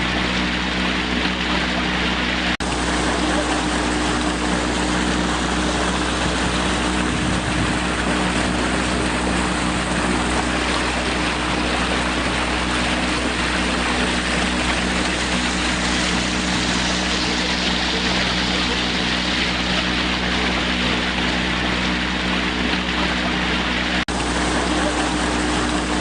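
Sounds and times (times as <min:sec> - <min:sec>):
low mechanical hum: 0:00.0 - 0:26.0
water washing against rocks: 0:00.0 - 0:26.0.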